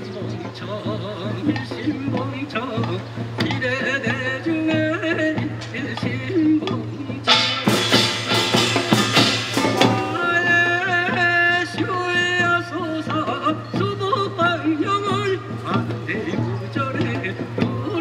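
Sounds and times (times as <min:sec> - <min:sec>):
hand drums and metal percussion: 0:00.0 - 0:18.0.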